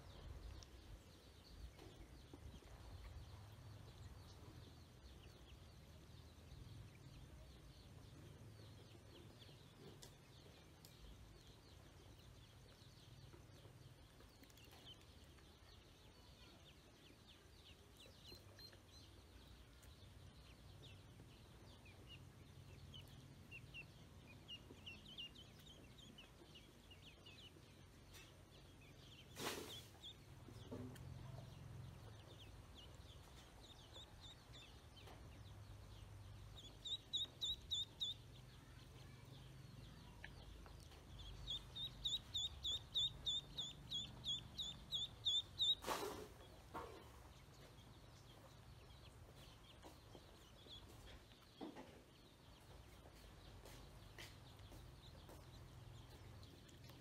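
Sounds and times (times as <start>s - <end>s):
ducklings peeping: 0.0s - 57.0s.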